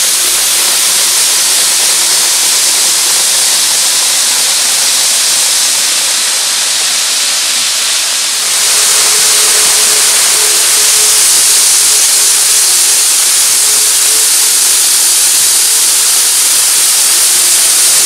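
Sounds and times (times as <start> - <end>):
model train wheels rolling on rail: 0.0 - 18.0.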